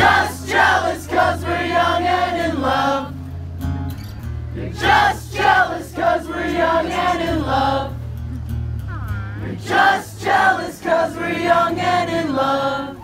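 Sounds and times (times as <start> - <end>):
crowd singing along: 0.0 - 3.4, 4.2 - 8.3, 9.4 - 13.0
acoustic guitar chords: 0.0 - 13.0.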